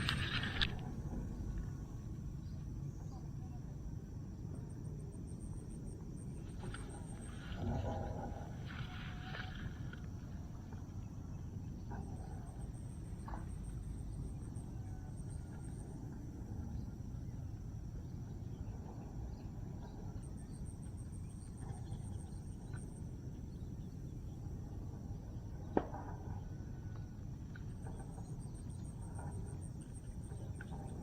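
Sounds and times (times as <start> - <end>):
cricket trilling: 0.0 - 31.0
low background rumble: 0.0 - 31.0.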